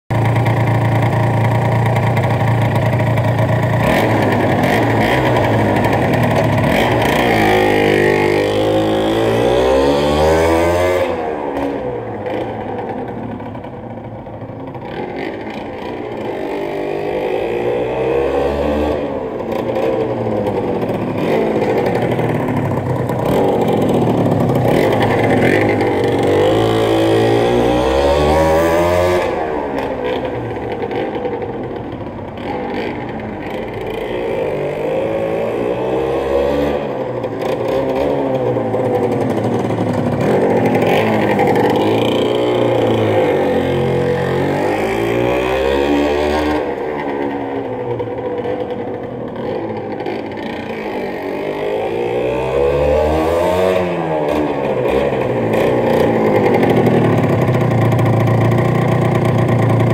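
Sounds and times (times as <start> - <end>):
motorcycle engine revving: 0.1 - 59.9.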